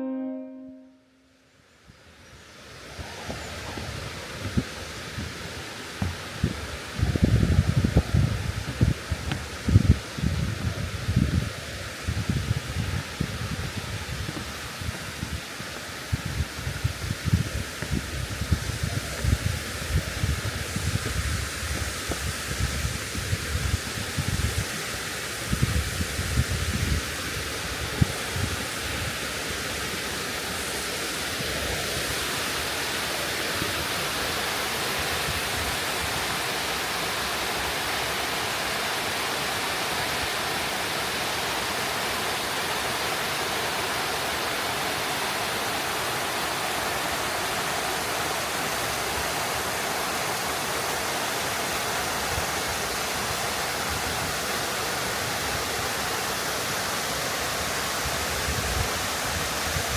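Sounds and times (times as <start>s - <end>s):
waterfall rushing: 2.6s - 59.9s.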